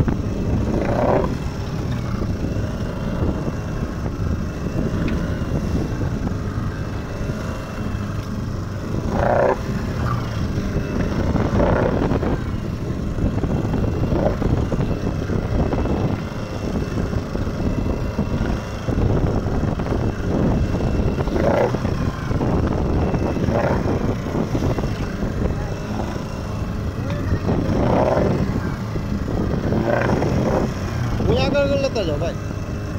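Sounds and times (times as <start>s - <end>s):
boat engine running: 0.0s - 32.9s
wind on microphone: 0.0s - 32.9s.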